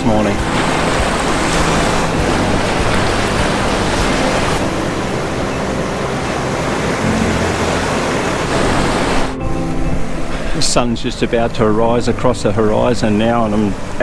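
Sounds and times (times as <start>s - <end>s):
surf washing around rocks: 0.0s - 14.0s.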